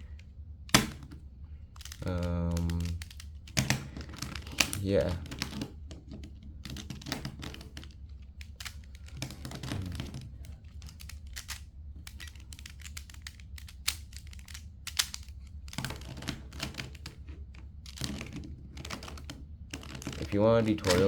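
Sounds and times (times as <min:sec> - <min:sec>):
puzzle cube clicking as turned: 0:01.7 - 0:05.8, 0:06.6 - 0:21.0.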